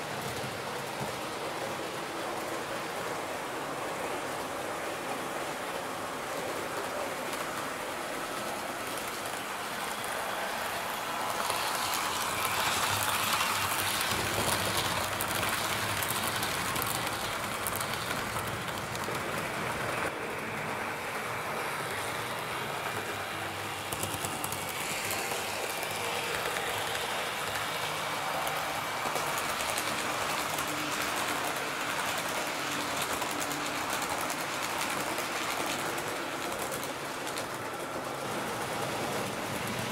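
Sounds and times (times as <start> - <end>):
model train whirring and rattling: 0.0 - 39.9.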